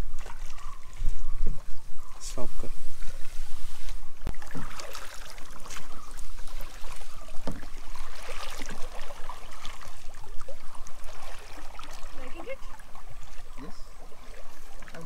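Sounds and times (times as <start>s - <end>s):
paddles splashing in water: 0.0s - 15.0s
water trickling off blades: 0.0s - 15.0s.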